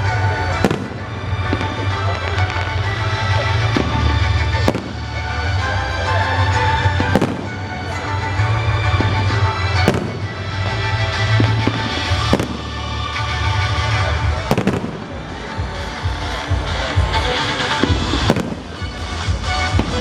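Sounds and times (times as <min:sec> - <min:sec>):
background music: 0:00.0 - 0:20.0
fireworks crackling: 0:00.0 - 0:20.0.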